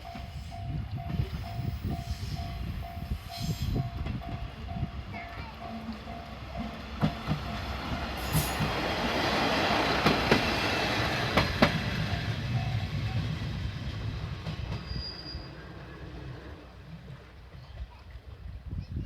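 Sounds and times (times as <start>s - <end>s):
railcar wheels rumbling: 0.0s - 18.7s.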